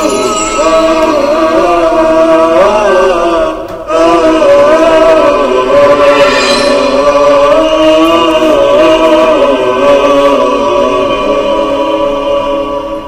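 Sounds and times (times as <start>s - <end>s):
unaccompanied voices singing: 0.0s - 13.0s.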